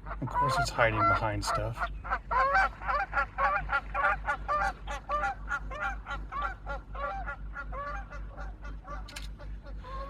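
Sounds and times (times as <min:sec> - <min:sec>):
flock of birds calling: 0:00.0 - 0:10.0
low steady hum: 0:00.0 - 0:10.0.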